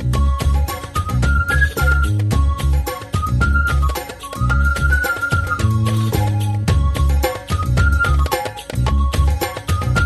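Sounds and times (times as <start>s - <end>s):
music with beat and bass: 0.0s - 10.0s.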